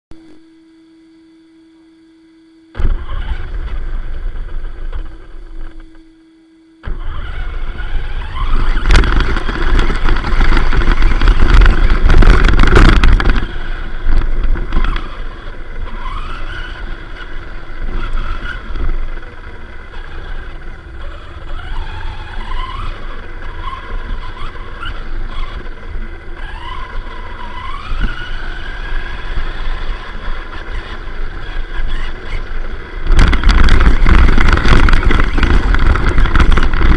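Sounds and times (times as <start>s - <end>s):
electric motor whining: 0.1s - 36.9s
tyre and chassis rattling: 6.8s - 36.9s.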